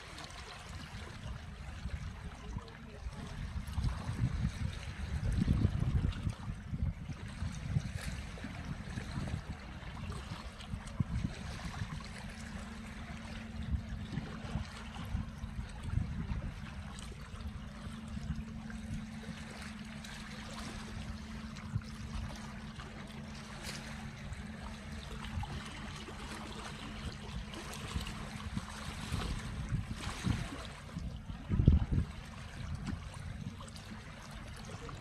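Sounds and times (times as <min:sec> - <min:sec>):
steady low rumble: 0:00.0 - 0:35.0
waves lapping against rocks: 0:00.0 - 0:35.0.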